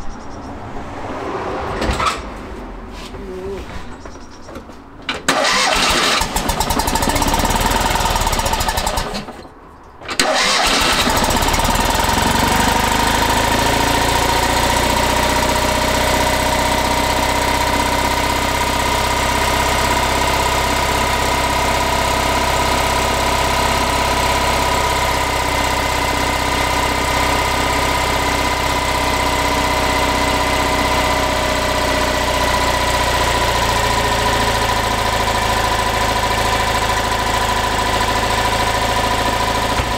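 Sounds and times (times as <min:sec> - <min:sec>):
car engine starting and idling: 0:00.0 - 0:03.1, 0:04.2 - 0:39.9.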